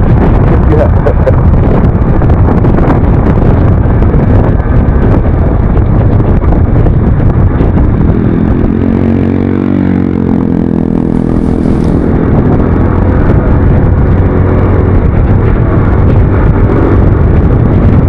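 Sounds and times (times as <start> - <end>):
wind on microphone: 0.0 - 18.0
scooter engine running: 3.0 - 18.0.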